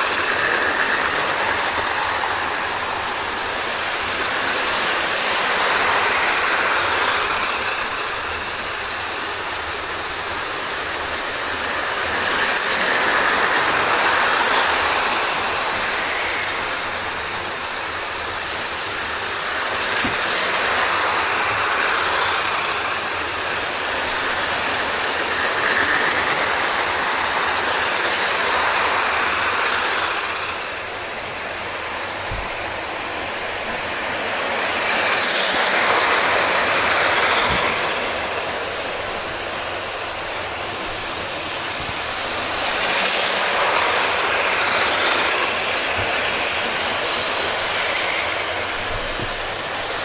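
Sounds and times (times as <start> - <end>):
model trains running on track: 0.0 - 50.0.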